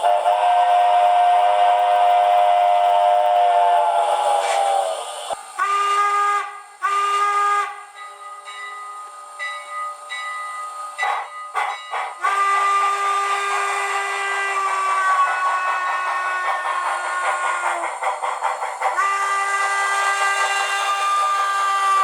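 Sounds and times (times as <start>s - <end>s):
short steam hisses: 0.0s - 8.0s, 8.9s - 22.0s
steam locomotive whistle: 0.0s - 8.5s, 11.0s - 22.0s.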